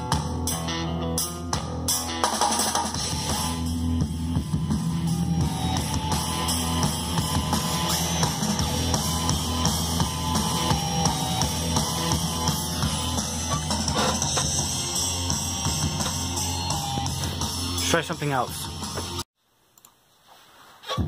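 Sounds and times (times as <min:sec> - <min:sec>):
rock music with drums and guitar: 0:00.0 - 0:19.2.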